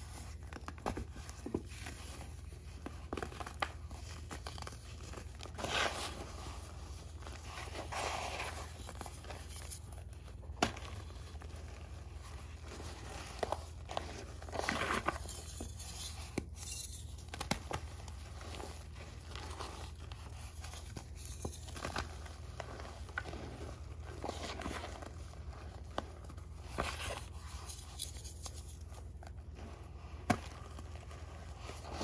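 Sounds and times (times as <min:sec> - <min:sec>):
hands crumbling chalk: 0:00.0 - 0:32.0.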